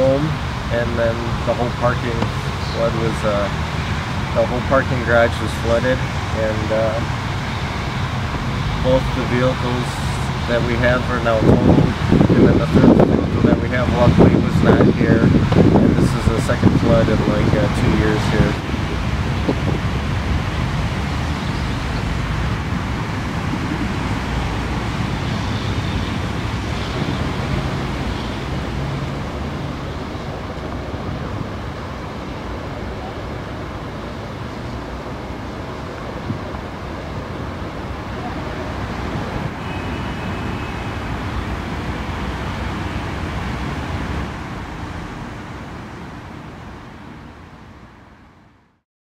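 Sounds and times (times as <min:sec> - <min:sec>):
wind on microphone: 0:00.0 - 0:47.2
road traffic rumble: 0:00.0 - 0:48.8.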